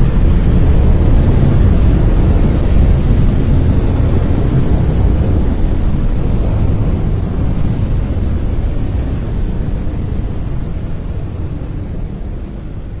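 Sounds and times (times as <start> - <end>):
brown noise: 0.0 - 13.0.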